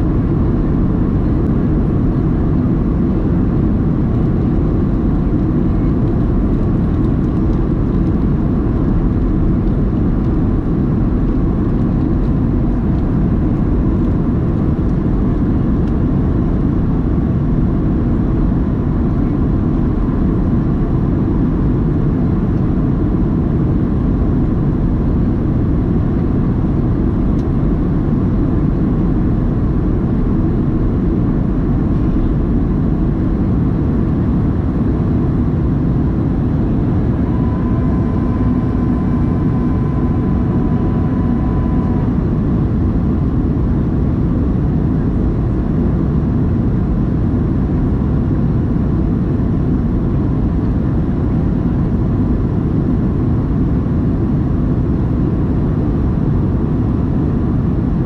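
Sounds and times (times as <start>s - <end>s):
jet cabin rumble: 0.0s - 58.0s.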